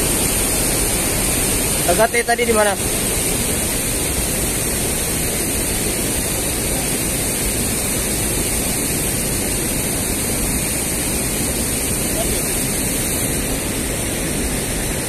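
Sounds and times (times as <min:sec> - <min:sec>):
river flowing over stones: 0:00.0 - 0:15.0.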